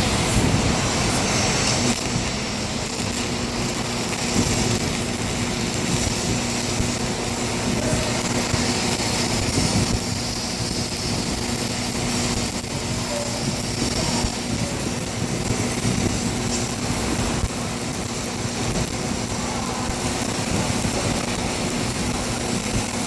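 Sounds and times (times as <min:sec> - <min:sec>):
steady hum: 0:00.0 - 0:23.0
welding arc crackling: 0:00.0 - 0:23.0.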